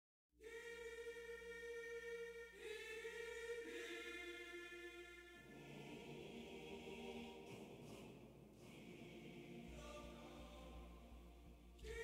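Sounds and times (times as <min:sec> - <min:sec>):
choir-like voices holding chords: 0:00.4 - 0:12.0.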